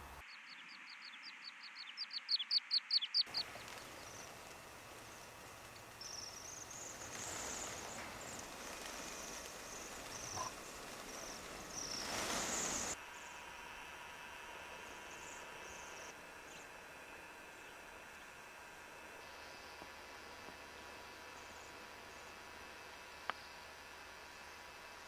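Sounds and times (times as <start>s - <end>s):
background hiss: 3.2s - 25.0s.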